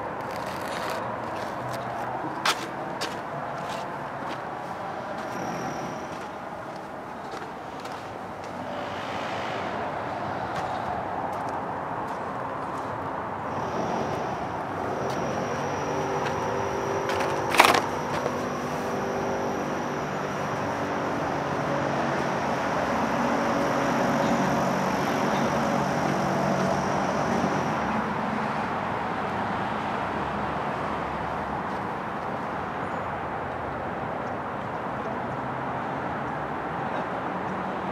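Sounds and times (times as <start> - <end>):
engines humming: 0.0 - 37.9.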